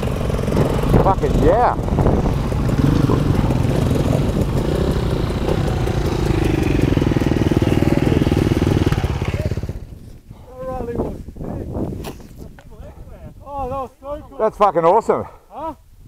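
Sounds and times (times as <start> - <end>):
dirt bike engines idling: 0.0 - 15.6.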